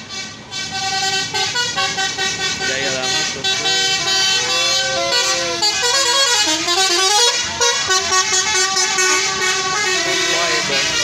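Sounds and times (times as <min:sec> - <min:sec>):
bus horn playing a tune: 0:00.0 - 0:11.0.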